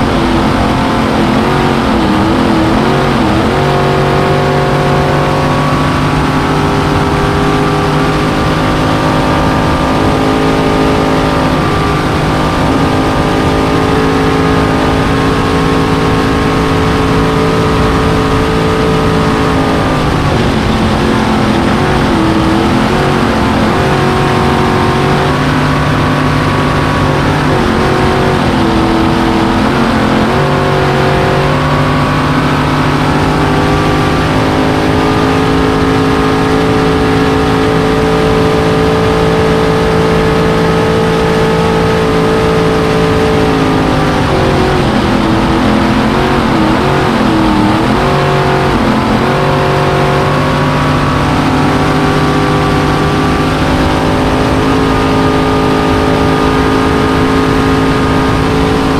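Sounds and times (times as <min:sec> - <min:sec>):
race boat engine roaring: 0:00.0 - 0:58.9
rushing wind: 0:00.0 - 0:58.9.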